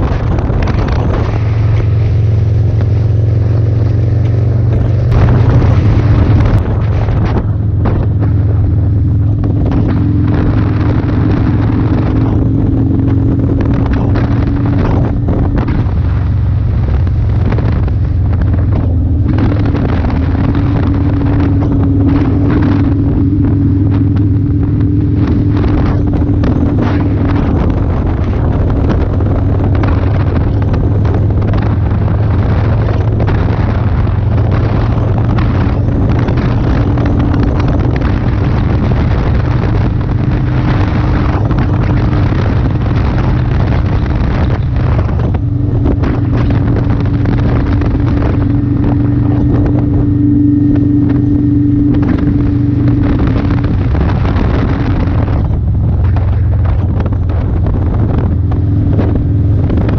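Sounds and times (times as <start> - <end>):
motorcycle engine cruising: 0.0 - 59.9
wind buffeting microphone: 0.0 - 59.9.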